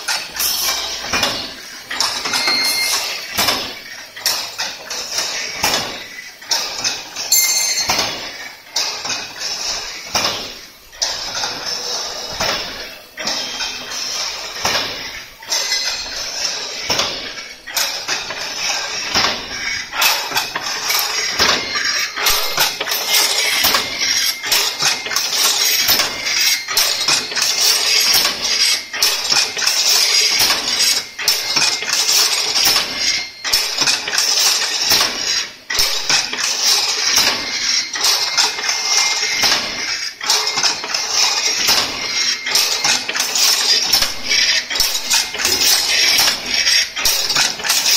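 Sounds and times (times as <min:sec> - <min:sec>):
wire weaving machine clatter: 0:00.0 - 0:47.9.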